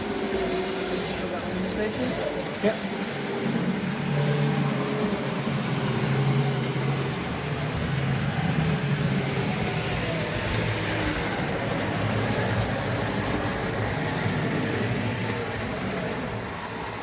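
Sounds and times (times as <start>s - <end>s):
model train motor hum: 0.0s - 17.0s
wheel and track noise: 0.0s - 17.0s.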